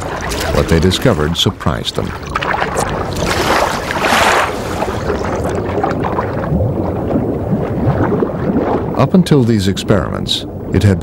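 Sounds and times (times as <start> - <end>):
rushing water underwater: 0.0 - 11.0.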